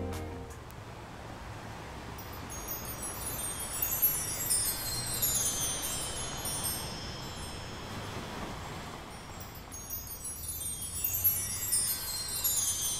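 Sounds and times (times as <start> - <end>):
wind chime cascade: 2.2 - 12.9.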